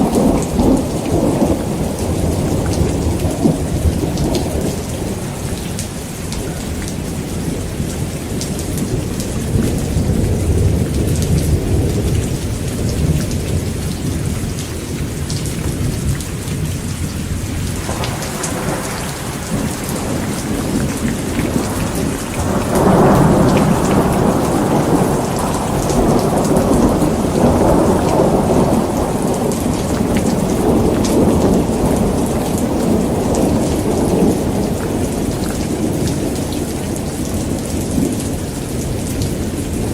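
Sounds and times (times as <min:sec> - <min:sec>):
rolling thunder: 0:00.0 - 0:05.8, 0:06.5 - 0:39.9
heavy rain pouring: 0:00.0 - 0:39.9.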